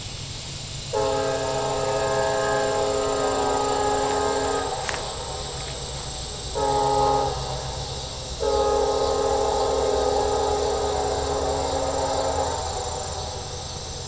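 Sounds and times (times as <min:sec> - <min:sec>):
low rumble of passing train: 0:00.0 - 0:14.0
locomotive air horn blasts: 0:00.9 - 0:13.7.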